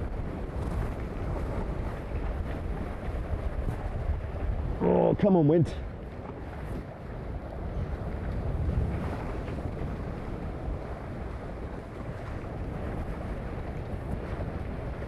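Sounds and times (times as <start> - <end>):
water washing along hulls: 0.0 - 15.0
wind rumbling on microphone: 0.0 - 15.0.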